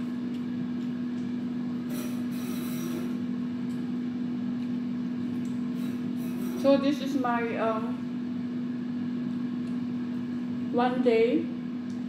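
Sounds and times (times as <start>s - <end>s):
steady low machine hum: 0.0s - 12.0s.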